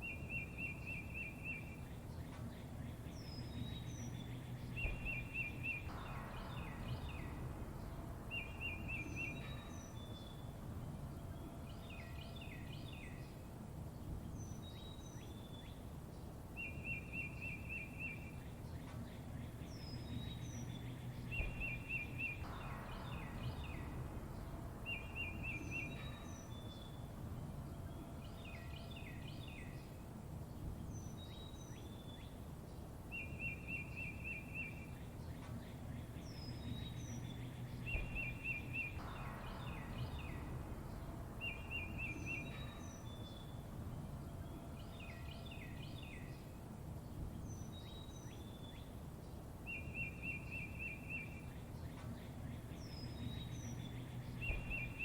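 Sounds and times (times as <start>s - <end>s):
songbirds chirping: 0.0s - 55.0s
low background rumble: 1.5s - 55.0s.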